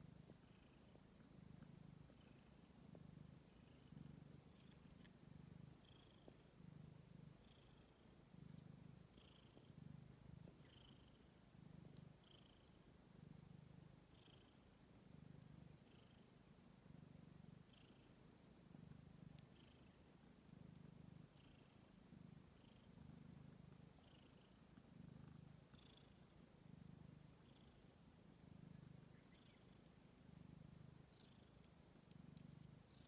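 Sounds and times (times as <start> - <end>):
faint cat purring: 0.0 - 33.0.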